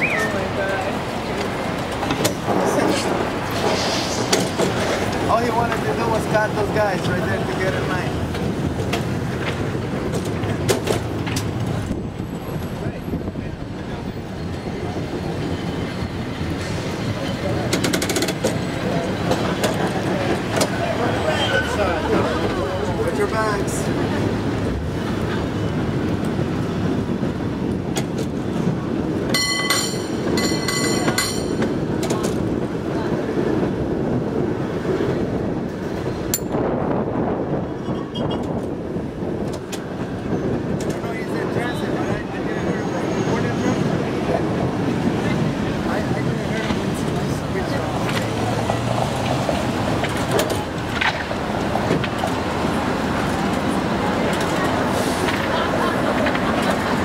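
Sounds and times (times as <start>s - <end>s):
cable car rumbling on rails: 0.0s - 57.0s.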